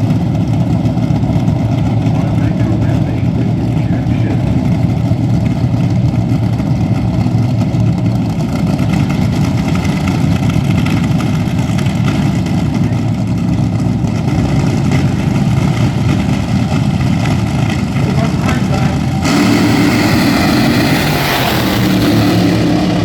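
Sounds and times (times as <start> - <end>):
racing car engines rumbling: 0.0 - 23.0.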